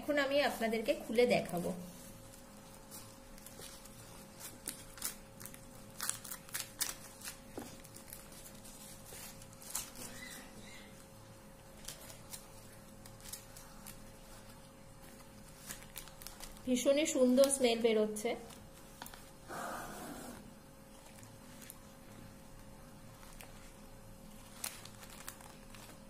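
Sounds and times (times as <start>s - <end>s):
faint steady hum: 0.0s - 26.0s
leaf parcels crinkling when peeled: 0.1s - 19.4s, 20.7s - 26.0s.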